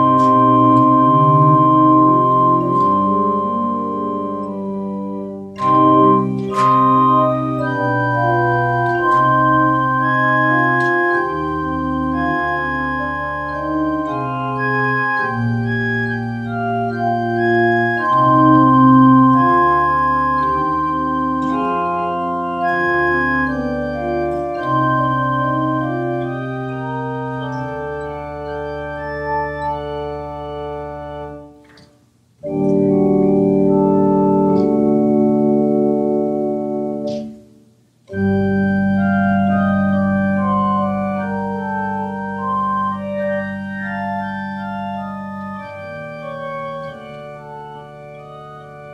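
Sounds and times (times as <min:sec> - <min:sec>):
organ playing sustained chords: 0:00.0 - 0:48.9.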